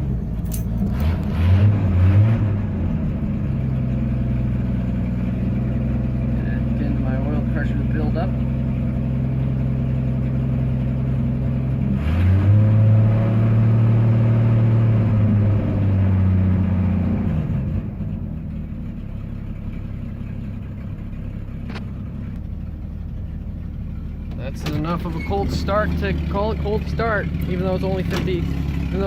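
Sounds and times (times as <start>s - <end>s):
truck engine revving: 0.0s - 18.3s, 20.5s - 29.0s.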